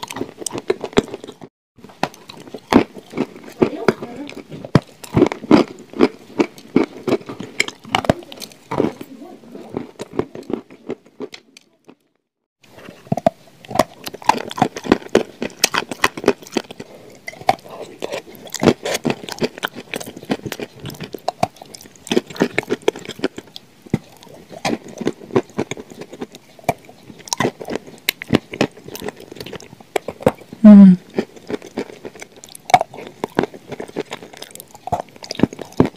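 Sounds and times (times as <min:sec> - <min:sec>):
wet crunchy chewing: 0:00.0 - 0:35.9.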